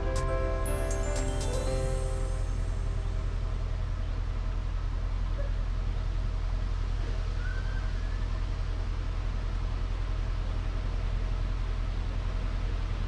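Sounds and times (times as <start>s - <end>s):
boat diesel engine droning: 1.6s - 13.0s.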